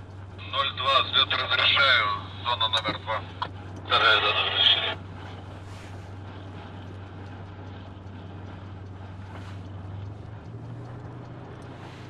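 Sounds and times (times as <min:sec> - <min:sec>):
propeller engine running: 0:00.0 - 0:12.0.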